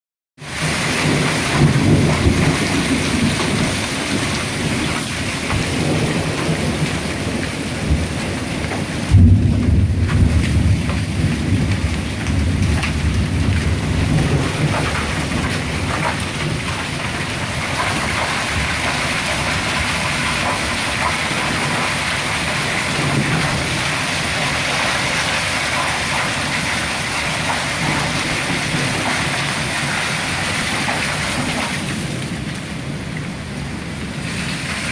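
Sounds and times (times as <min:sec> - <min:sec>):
thunder rumble: 0:00.4 - 0:34.3
hail and rain falling: 0:00.4 - 0:34.9.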